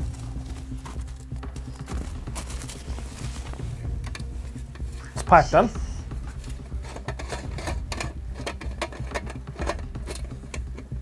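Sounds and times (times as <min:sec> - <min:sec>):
equipment clicks and rustles: 0:00.0 - 0:05.4, 0:06.1 - 0:11.0
steady low rumble: 0:00.0 - 0:11.0.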